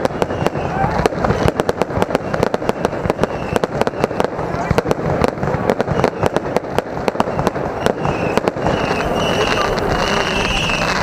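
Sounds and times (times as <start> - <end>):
fireworks crackling bangs: 0.0 - 11.0.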